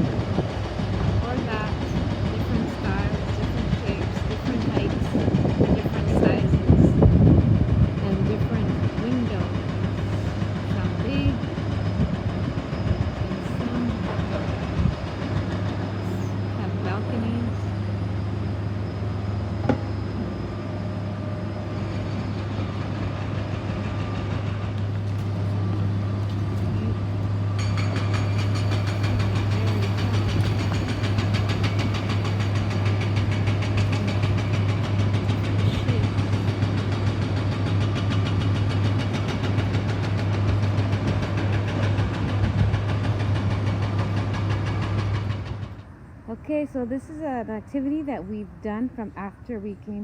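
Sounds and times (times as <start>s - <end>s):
busy rattling clatter: 0.0s - 17.8s, 22.5s - 45.8s
heavy engine humming: 0.0s - 50.0s.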